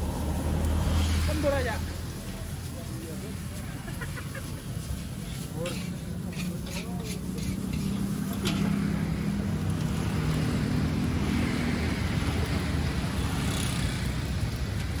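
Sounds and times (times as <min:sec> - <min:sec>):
roadside traffic rumble: 0:00.0 - 0:15.0
wok burner hissing: 0:00.0 - 0:15.0.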